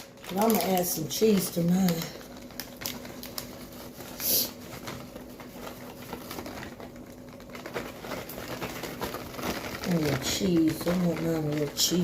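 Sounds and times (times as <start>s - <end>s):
cheese pattering onto food: 0.0s - 12.0s.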